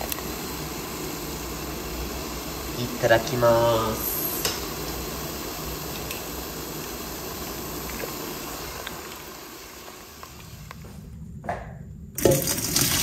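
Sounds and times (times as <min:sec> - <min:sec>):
water boiling in pot: 0:00.0 - 0:10.9, 0:12.2 - 0:13.0.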